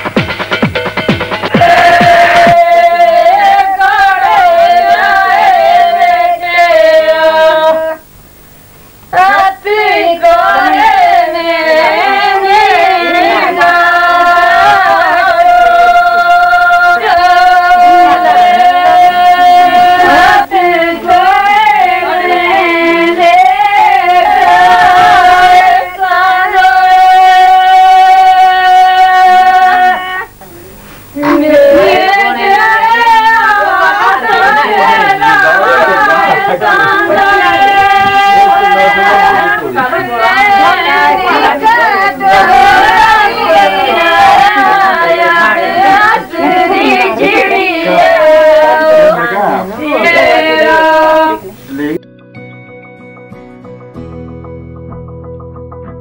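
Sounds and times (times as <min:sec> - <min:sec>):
women singing: 0:01.5 - 0:08.1, 0:09.1 - 0:30.4, 0:31.2 - 0:51.6.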